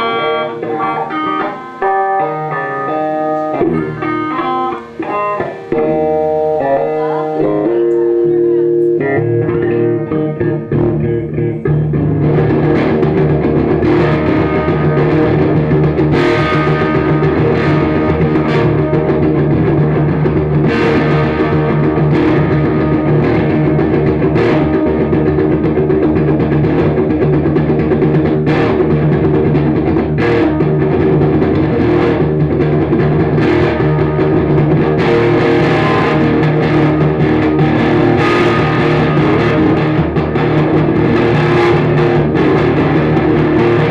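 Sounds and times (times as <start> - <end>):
guitar: 0.0 - 43.9
sustained notes: 0.0 - 43.9.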